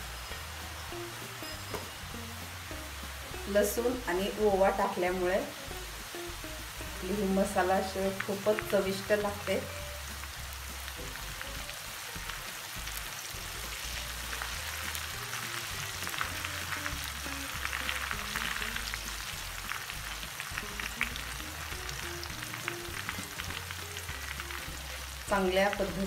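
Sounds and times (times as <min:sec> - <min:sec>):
deep-frying oil sizzling: 0:00.0 - 0:26.0.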